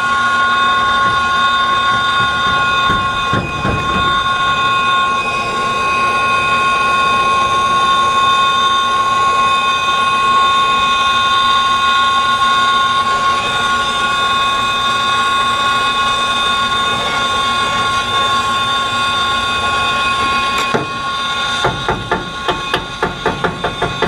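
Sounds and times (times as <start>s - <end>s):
torch flame hissing with whine: 0.0s - 24.0s.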